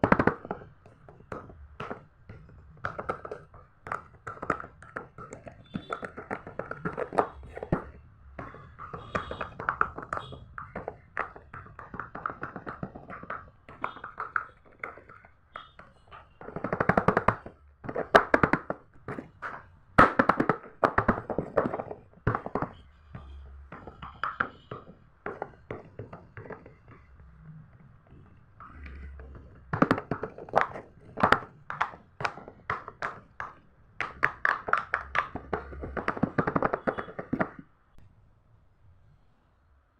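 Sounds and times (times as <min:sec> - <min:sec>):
fidget toy bubbles popping: 0:00.0 - 0:37.6.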